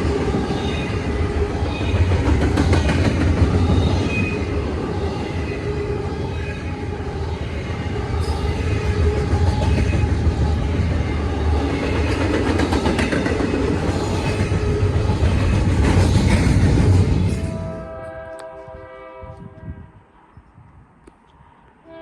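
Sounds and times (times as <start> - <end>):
freight train rumbling past: 0.0 - 20.3.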